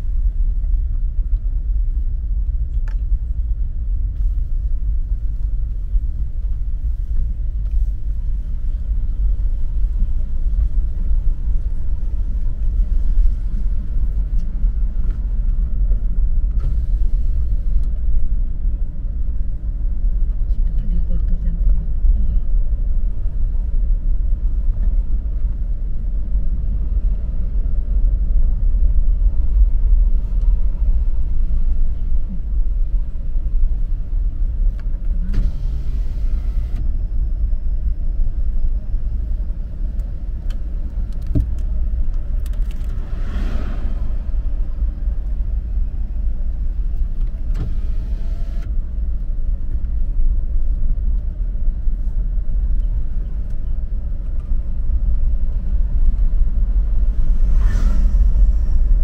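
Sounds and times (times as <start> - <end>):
vehicle driving on road: 0.0 - 59.0.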